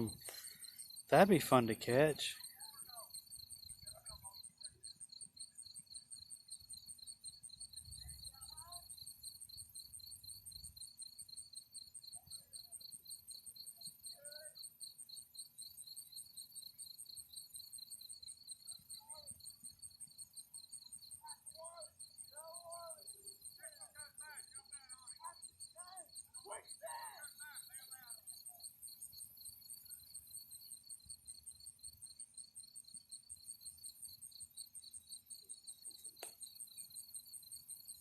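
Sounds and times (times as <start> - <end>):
cricket chirping: 0.0 - 38.0.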